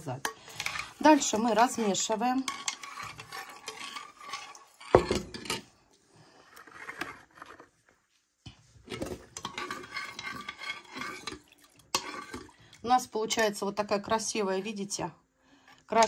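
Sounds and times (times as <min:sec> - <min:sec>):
metal spoon stirring in saucepan: 0:00.0 - 0:05.8, 0:06.4 - 0:07.8, 0:08.8 - 0:14.9.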